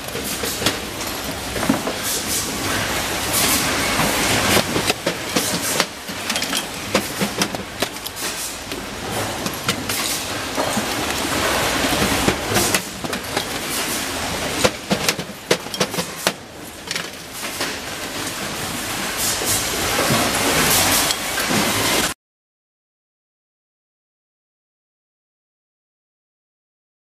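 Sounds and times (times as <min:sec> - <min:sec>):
steady machinery noise: 0:00.0 - 0:22.2.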